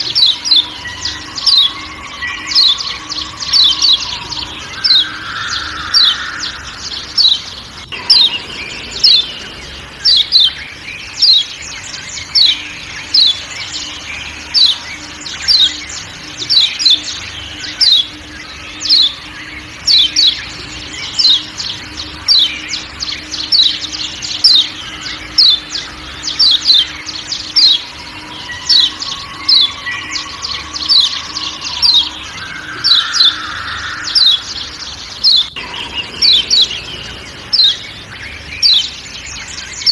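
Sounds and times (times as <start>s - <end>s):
bird calling high falling notes: 0.0s - 39.9s
forest sounds: 0.0s - 39.9s.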